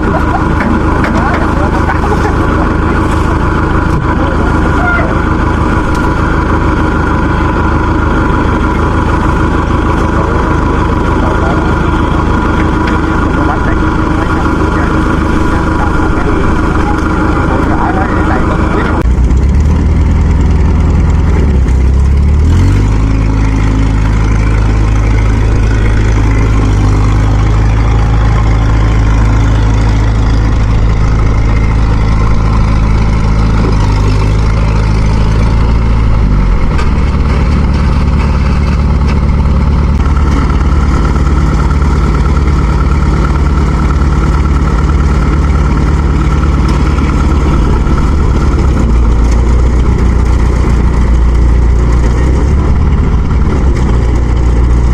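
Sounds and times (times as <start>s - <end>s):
heavy farm machine engine: 0.0s - 54.9s.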